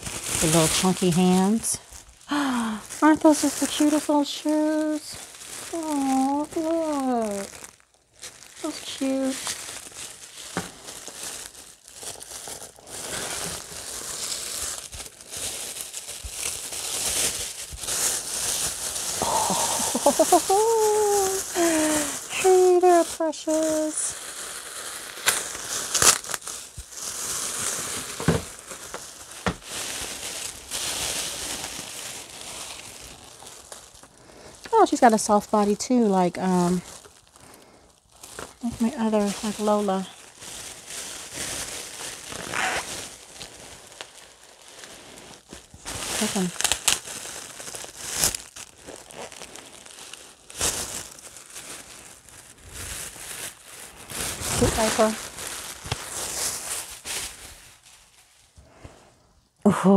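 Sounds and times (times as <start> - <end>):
plastic wrapping crinkling: 0.0 - 59.0.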